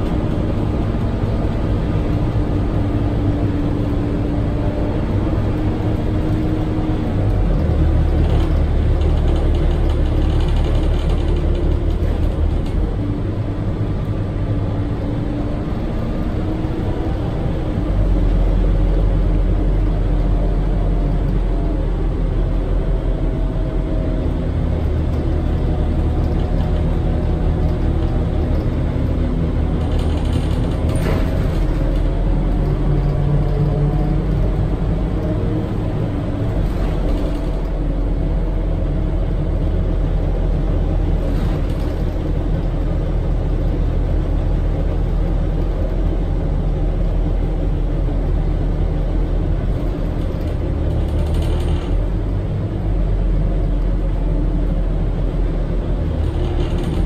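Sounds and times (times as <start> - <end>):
bus diesel engine droning: 0.0 - 57.0
road noise: 0.0 - 57.0.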